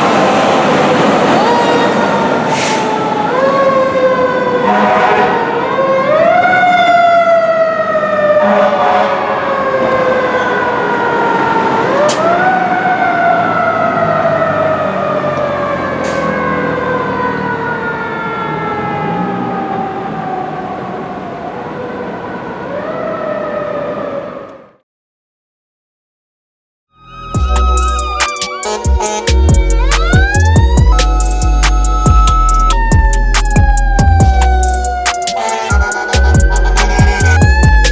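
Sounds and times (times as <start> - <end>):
mechanical siren wailing: 0.0 - 24.8, 26.9 - 37.9.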